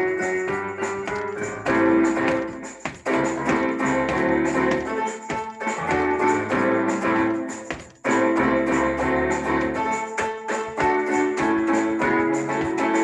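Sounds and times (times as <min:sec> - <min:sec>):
electronic keyboard chords over beat: 0:00.0 - 0:13.0.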